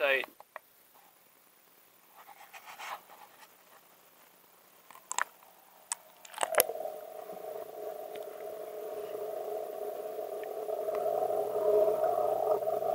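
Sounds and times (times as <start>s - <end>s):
steady two-tone hum: 0.0s - 12.9s.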